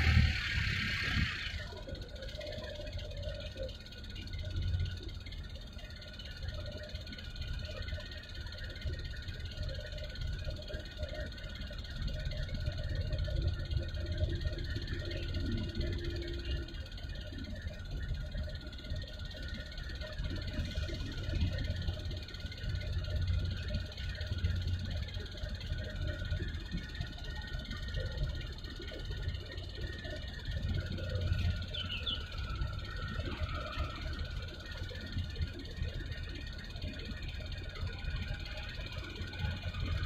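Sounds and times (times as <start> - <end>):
faint droning tones: 0.0 - 40.0.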